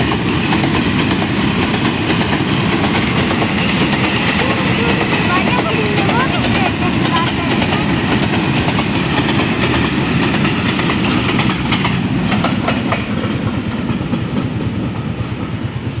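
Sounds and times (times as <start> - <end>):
train rumbling past: 0.0 - 16.0
train wheels clicking on rail joints: 0.0 - 16.0.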